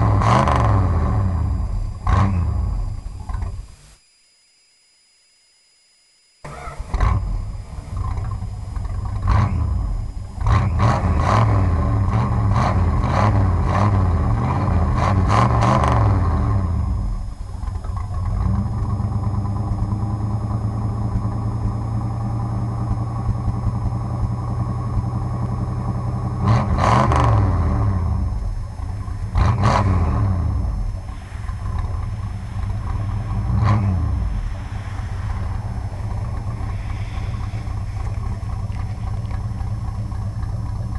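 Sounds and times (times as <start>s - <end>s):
car engine idling and revving: 0.0s - 3.8s, 6.5s - 40.9s.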